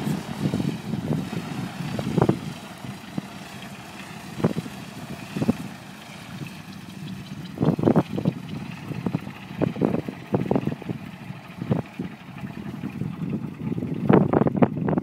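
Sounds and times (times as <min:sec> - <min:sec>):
aircraft radial engine idling: 0:00.0 - 0:15.0
wind buffeting microphone: 0:00.0 - 0:15.0.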